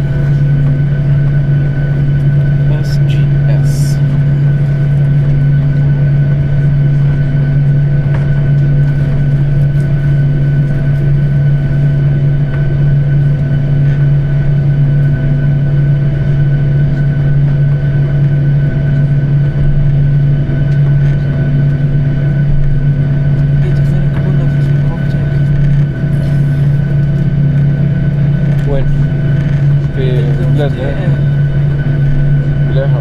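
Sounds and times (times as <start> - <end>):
airliner cabin drone: 0.0 - 33.0.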